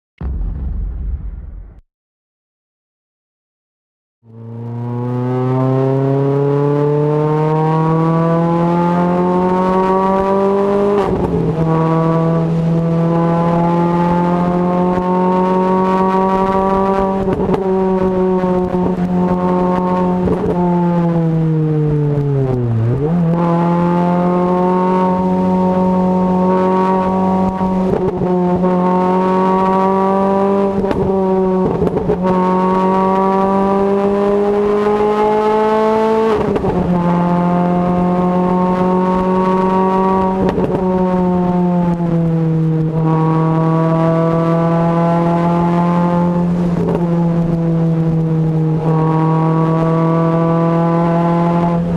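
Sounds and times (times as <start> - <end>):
car engine revving hard: 4.3 - 51.9.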